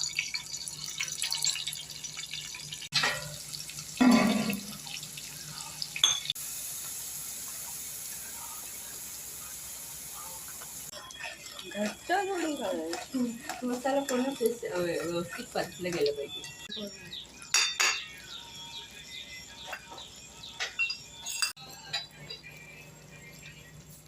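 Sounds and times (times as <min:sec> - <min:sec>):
spices sizzling in a pan: 0:00.0 - 0:24.0.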